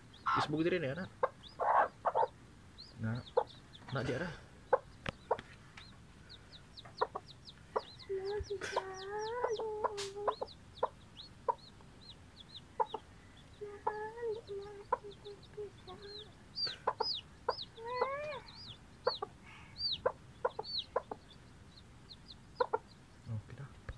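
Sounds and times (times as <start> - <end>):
hen clucking: 0.0 - 23.7
baby chicks peeping: 0.0 - 23.9.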